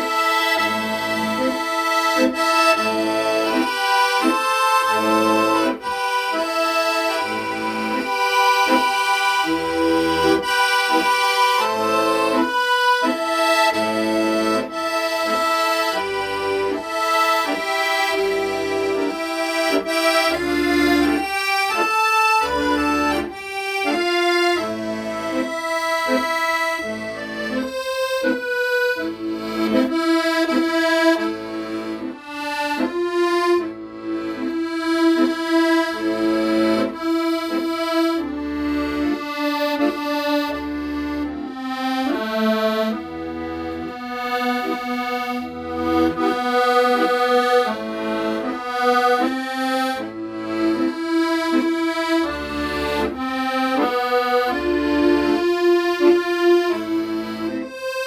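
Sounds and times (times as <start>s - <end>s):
accordion melody: 0.0s - 58.0s
pulsing bass and chord accompaniment: 0.0s - 58.0s.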